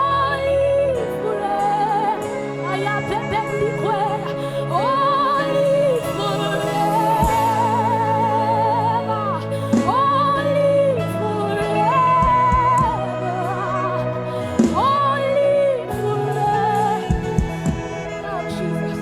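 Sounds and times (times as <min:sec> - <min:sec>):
sustained keyboard chords: 0:00.0 - 0:19.0.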